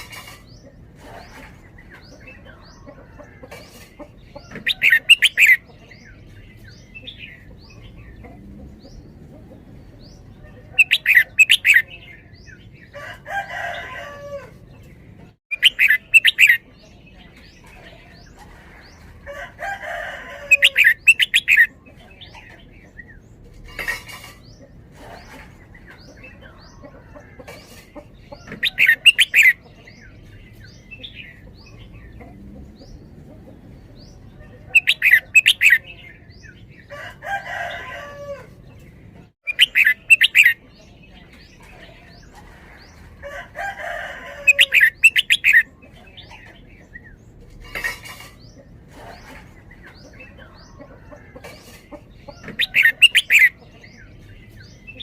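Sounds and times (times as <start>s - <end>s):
bird singing song phrases: 0.6s - 19.1s, 19.7s - 51.4s, 52.1s - 55.0s.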